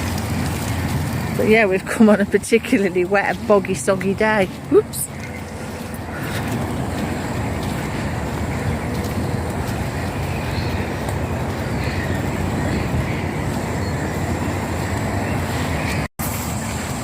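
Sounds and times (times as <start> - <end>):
power wheelchair driving on path: 0.0 - 17.0.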